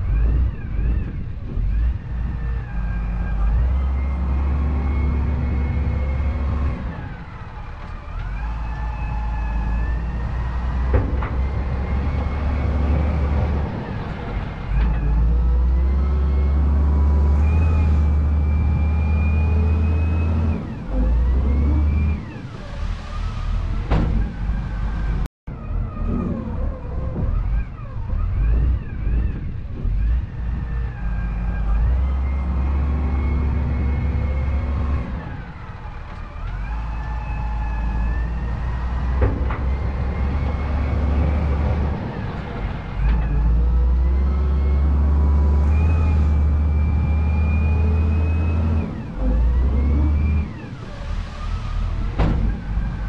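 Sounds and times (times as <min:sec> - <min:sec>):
diesel engines rumbling: 0:00.0 - 0:53.0
hydraulic whines: 0:00.0 - 0:53.0.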